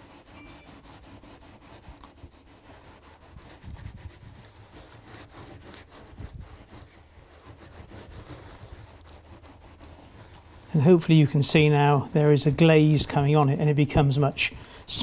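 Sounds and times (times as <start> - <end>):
wet hand rubbing plaster: 0.0 - 15.0.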